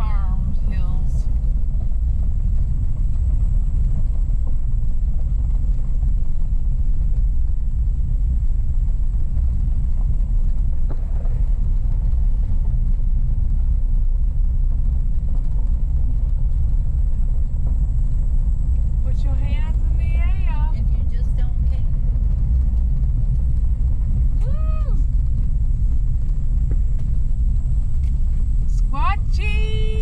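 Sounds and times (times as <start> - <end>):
car driving on gravel road: 0.0 - 30.0.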